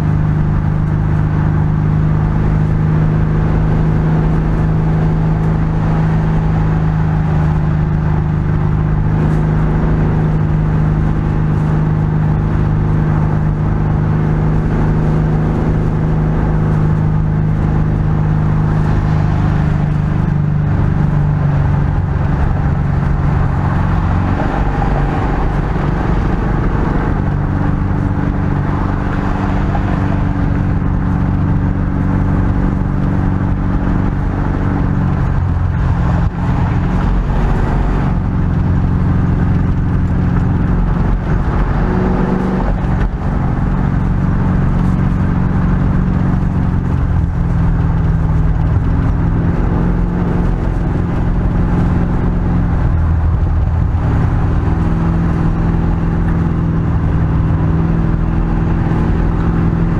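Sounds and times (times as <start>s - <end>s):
car engine and tyre drone: 0.0s - 59.9s.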